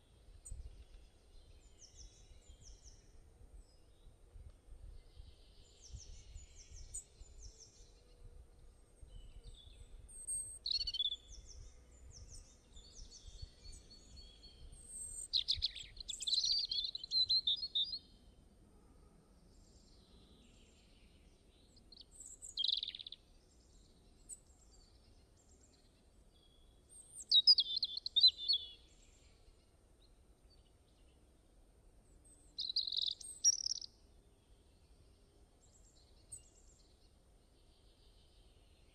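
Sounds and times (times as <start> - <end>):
small songbirds chirping: 0.0 - 18.6, 19.4 - 38.9.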